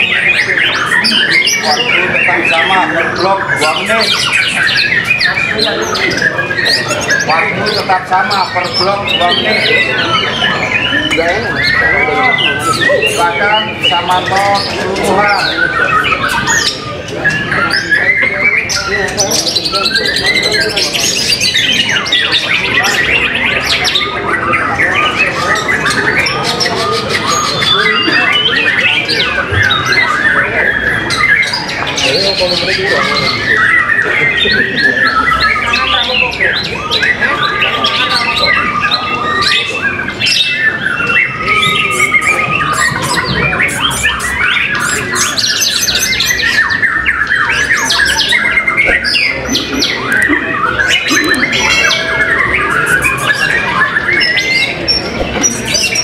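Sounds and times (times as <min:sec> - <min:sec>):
songbirds whistling and trilling: 0:00.0 - 0:56.0.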